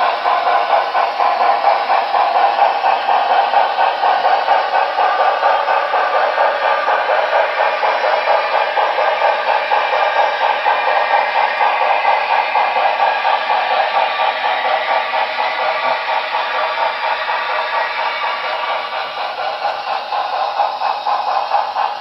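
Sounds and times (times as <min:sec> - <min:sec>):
model train clattering on track: 0:00.0 - 0:22.0.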